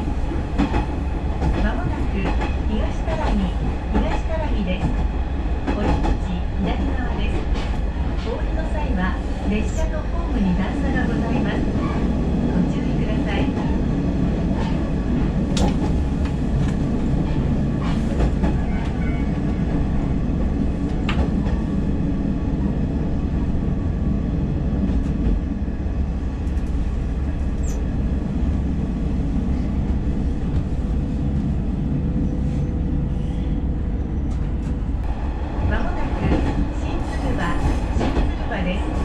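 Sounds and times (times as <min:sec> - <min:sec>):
railcar engine and wheel noise: 0:00.0 - 0:39.0.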